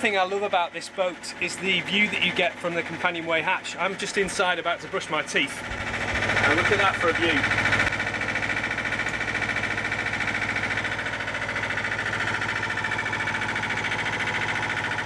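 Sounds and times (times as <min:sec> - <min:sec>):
boat engine throbbing: 0:00.0 - 0:15.0.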